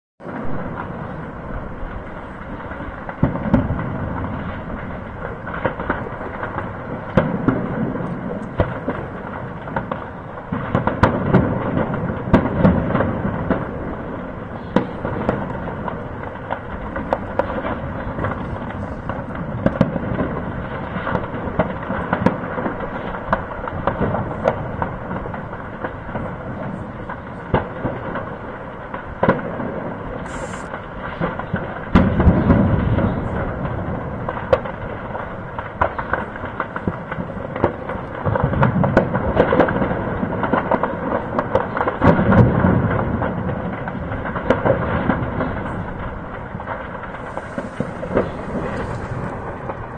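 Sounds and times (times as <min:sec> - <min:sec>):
explosion booms: 0:00.2 - 0:49.9.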